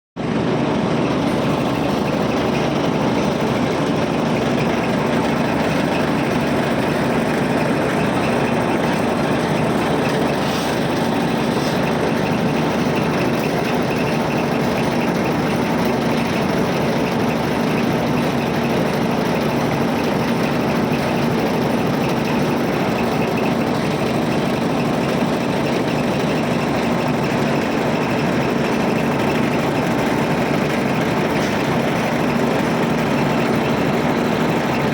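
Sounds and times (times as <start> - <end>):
machine engine running steadily: 0.2 - 34.9.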